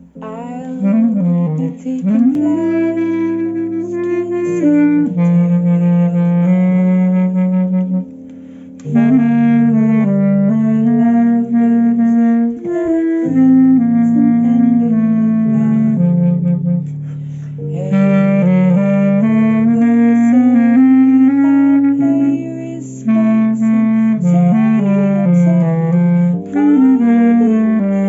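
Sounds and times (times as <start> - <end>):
clarinet melody: 0.0 - 28.0
sustained accompaniment notes: 0.0 - 28.0.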